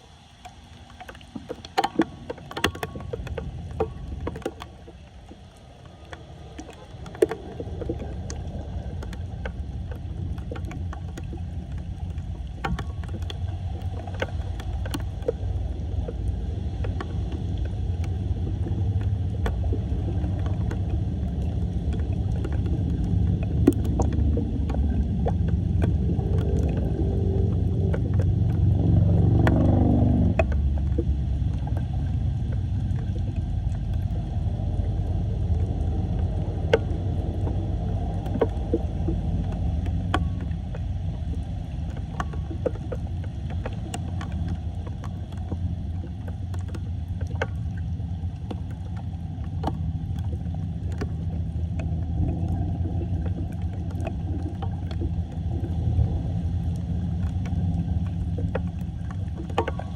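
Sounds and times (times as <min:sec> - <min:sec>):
light splashes and knocks: 0:00.4 - 0:05.4, 0:06.1 - 0:34.1, 0:35.6 - 0:47.8, 0:57.2 - 0:59.9.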